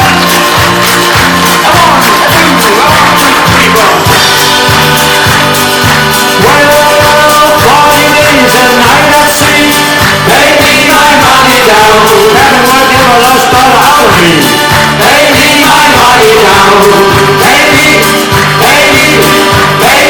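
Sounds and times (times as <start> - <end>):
live folk band music: 0.0 - 20.0.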